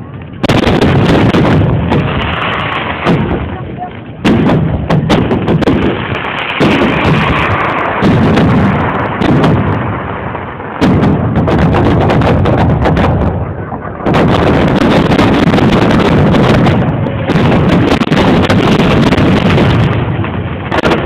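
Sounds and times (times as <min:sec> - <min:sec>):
fireworks crackling: 0:00.0 - 0:21.0
firework shells bursting: 0:00.2 - 0:21.0.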